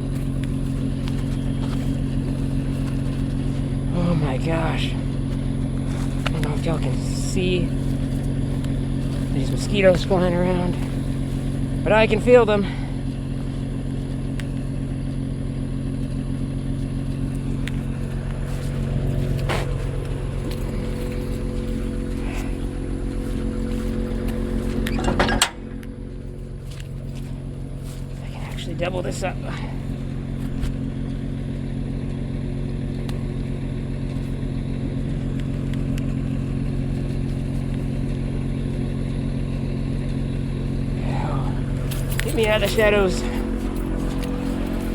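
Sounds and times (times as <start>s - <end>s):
vehicle engine idling: 0.0s - 44.9s.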